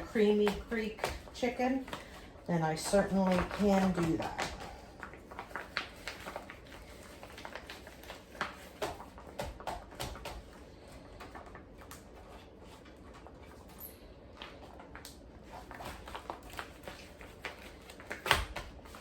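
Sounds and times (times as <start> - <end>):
food containers and bags rustling: 0.0 - 19.0.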